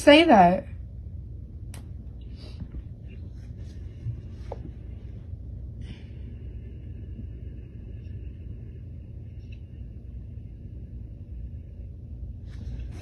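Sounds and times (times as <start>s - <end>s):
low background rumble: 0.0s - 13.0s
faint breaths: 2.2s - 13.0s.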